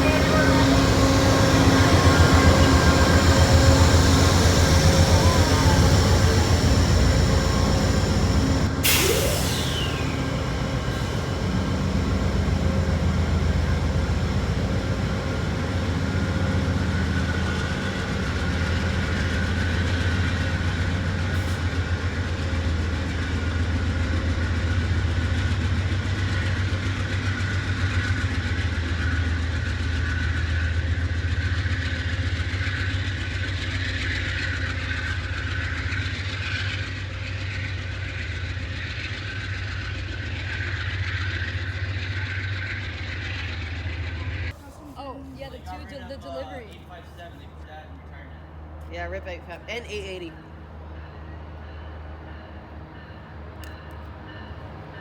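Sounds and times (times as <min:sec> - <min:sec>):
constant engine whine: 0:00.0 - 0:44.6
diesel locomotive engine hum: 0:00.0 - 0:55.0.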